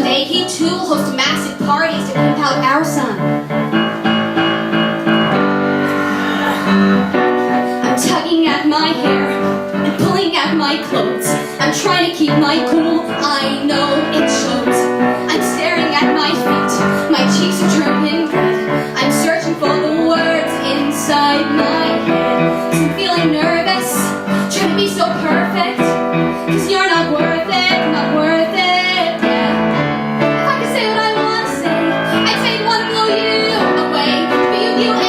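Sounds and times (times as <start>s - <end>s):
woman singing: 0.0s - 3.2s, 7.8s - 35.0s
piano and keyboard backing: 0.0s - 35.0s.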